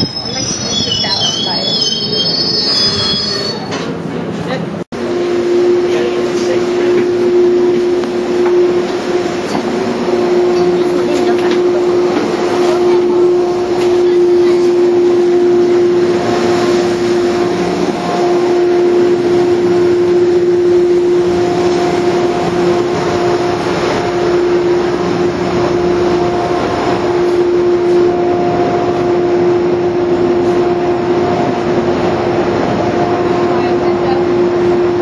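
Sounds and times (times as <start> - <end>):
steady train hum: 0.0 - 35.0
constant wash of noise: 4.0 - 35.0.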